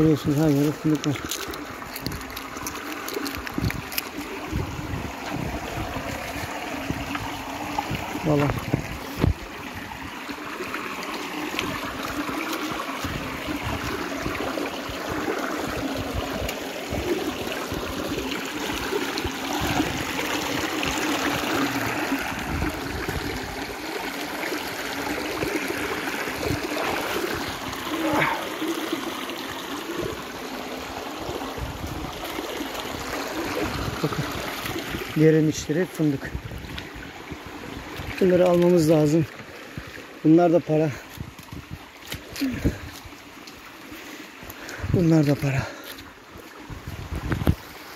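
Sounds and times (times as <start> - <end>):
stream babbling over stones: 0.0 - 47.9.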